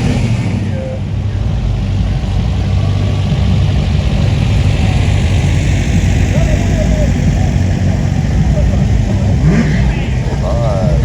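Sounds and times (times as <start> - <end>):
car engine exhaust rumble: 0.0 - 11.0.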